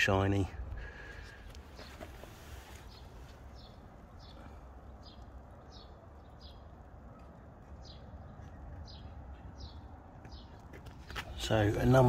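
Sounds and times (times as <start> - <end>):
bird chirping: 0.9 - 12.0.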